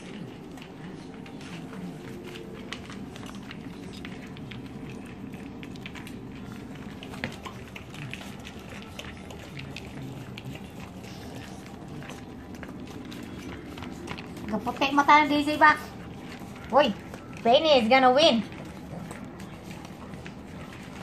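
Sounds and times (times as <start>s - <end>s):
dogs chewing and licking: 0.0s - 21.0s.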